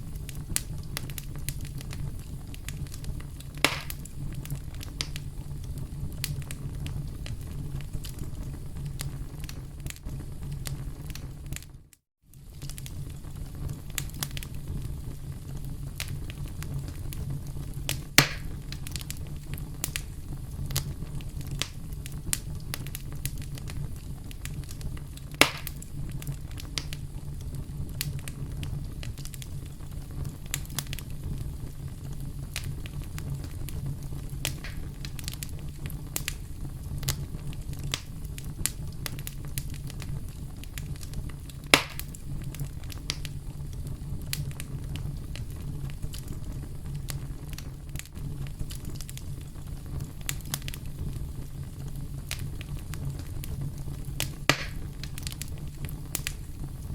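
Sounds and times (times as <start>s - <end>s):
campfire crackling: 0.0s - 56.9s
loud fire pops: 0.0s - 56.9s
low fire rumble: 0.0s - 56.9s.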